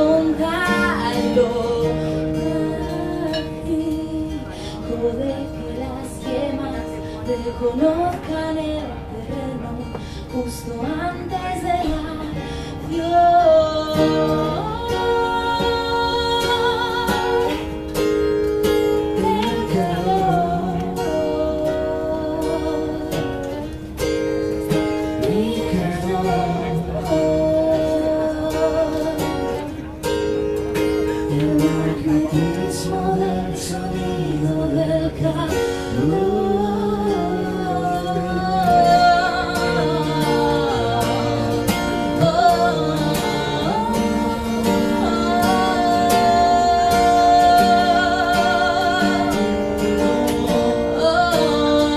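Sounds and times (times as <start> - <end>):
person singing: 0.0 - 17.7, 18.8 - 23.7, 25.2 - 29.8, 31.1 - 51.9
acoustic guitar playing: 0.0 - 51.9.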